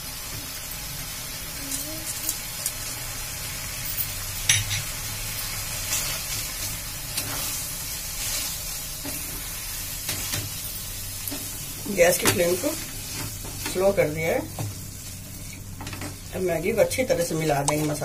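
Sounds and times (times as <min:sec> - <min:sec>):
food sizzling in a metal pan: 0:00.0 - 0:18.0.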